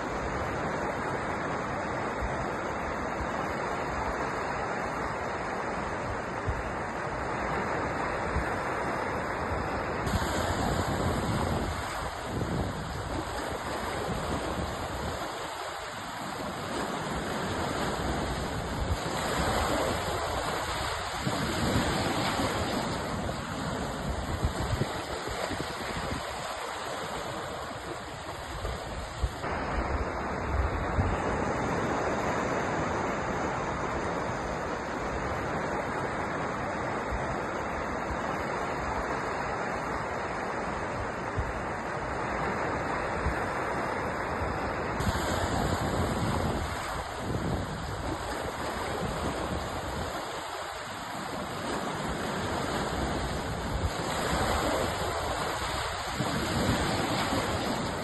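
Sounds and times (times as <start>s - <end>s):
waves washing and breaking: 0.0s - 58.0s.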